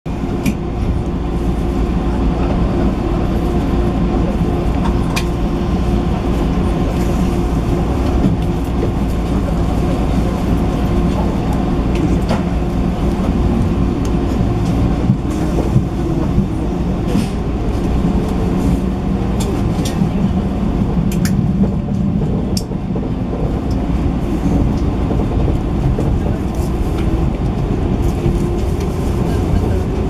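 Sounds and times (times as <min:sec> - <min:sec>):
train wheels rumbling on rail: 0:00.1 - 0:30.0.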